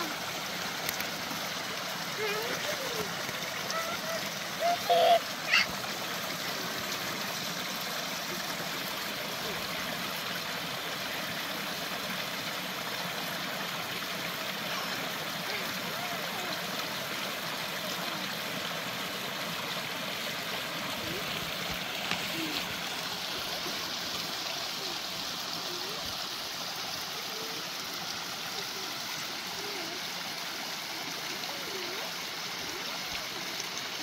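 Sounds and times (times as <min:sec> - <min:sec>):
stream babbling over rocks: 0:00.0 - 0:34.0.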